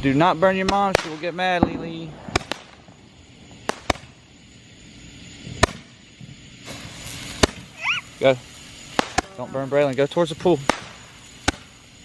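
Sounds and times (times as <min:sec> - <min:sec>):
firework hissing burst: 0:00.0 - 0:12.0.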